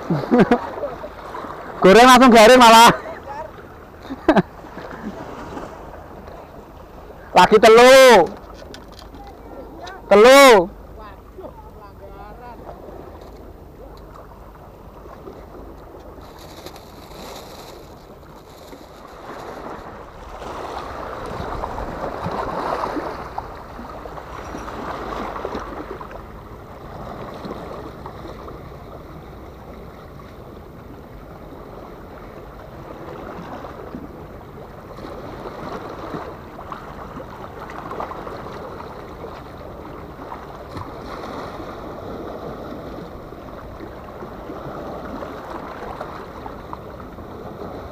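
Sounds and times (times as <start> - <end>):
waves splashing against rocks: 0.0 - 47.9.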